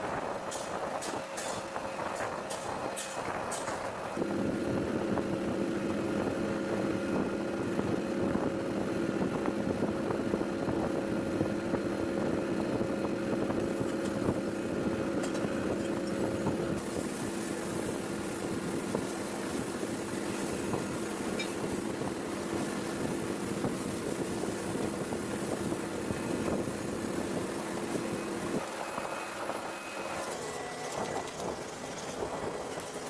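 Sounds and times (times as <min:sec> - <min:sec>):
steady machine hum: 0:04.1 - 0:33.0.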